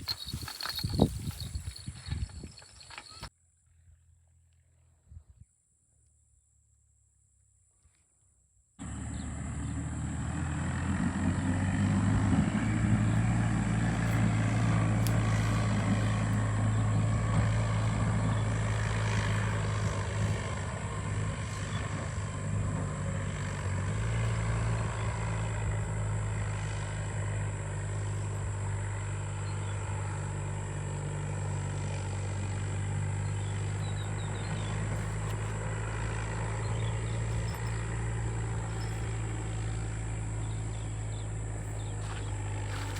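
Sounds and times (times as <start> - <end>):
engine humming steadily: 0.0 - 3.3, 8.8 - 42.9.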